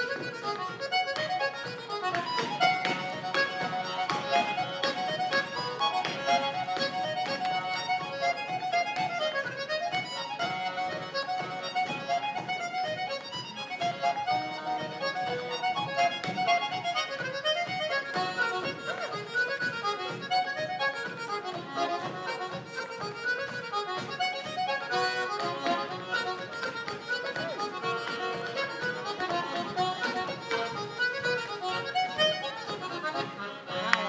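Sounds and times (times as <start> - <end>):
accordion: 0.0 - 34.0
fiddle: 0.0 - 34.0.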